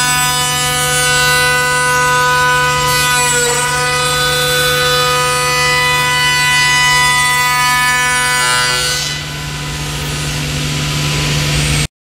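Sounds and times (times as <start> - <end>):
cnc router whine: 0.0 - 11.9.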